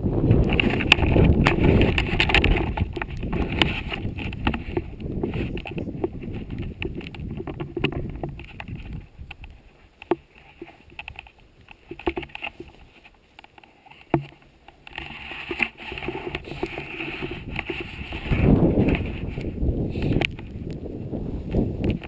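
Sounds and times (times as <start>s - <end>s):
wind buffeting microphone: 0.0s - 13.0s, 14.9s - 22.0s
handling clicks and rustles: 0.2s - 22.0s.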